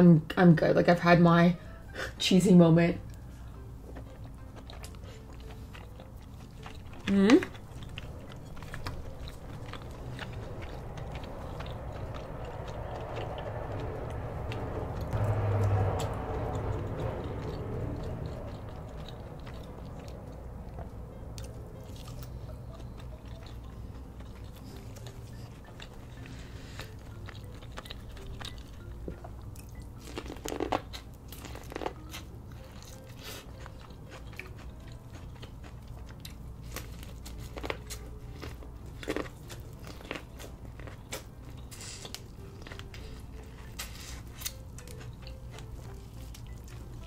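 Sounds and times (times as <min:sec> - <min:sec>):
chewing and biting food: 0:03.1 - 0:47.0.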